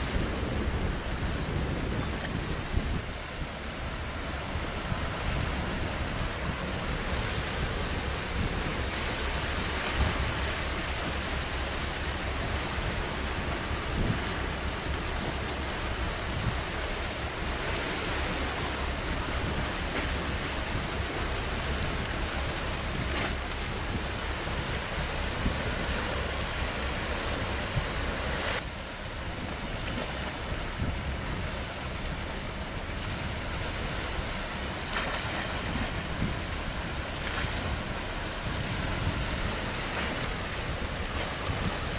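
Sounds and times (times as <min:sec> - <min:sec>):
sea waves: 0:00.0 - 0:41.9
wind buffeting microphone: 0:00.0 - 0:41.9.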